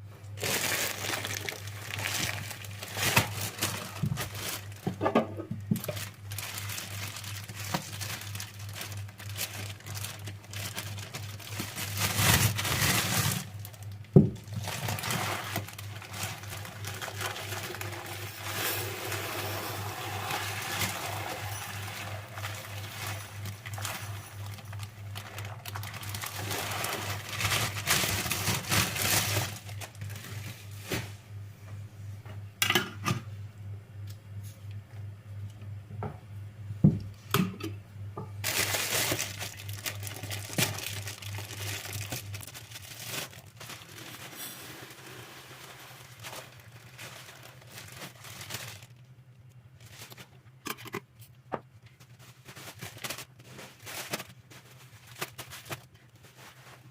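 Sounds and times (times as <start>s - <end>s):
low steady hum: 0.0s - 56.9s
plastic packaging rustling: 0.3s - 31.2s, 38.4s - 56.9s.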